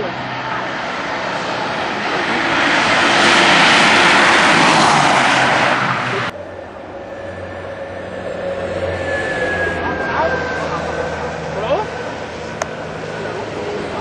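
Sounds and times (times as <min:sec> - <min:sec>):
distant car engine: 0:00.0 - 0:14.0
racing cars passing: 0:00.0 - 0:14.0.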